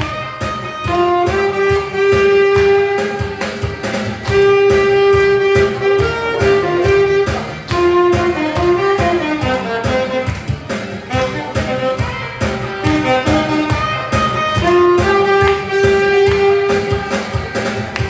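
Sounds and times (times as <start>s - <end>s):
backing track drum beat: 0.0s - 18.0s
saxophone melody: 0.0s - 18.0s.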